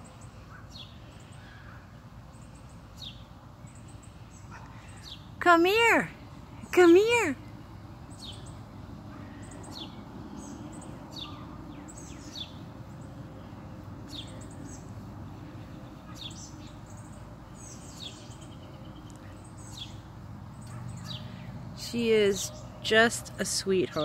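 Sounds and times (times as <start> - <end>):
birds chirping: 0.0 - 24.0
low background noise: 0.0 - 24.0.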